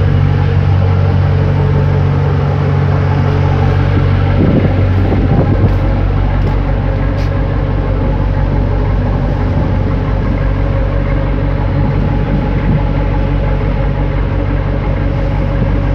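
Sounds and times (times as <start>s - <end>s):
ship engines droning: 0.0s - 15.9s.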